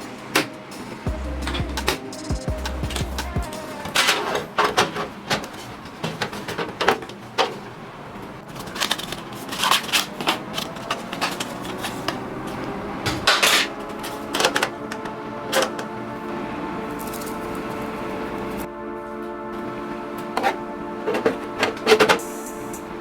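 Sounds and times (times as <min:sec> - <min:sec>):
faint background music: 0:00.0 - 0:06.6, 0:08.5 - 0:23.0.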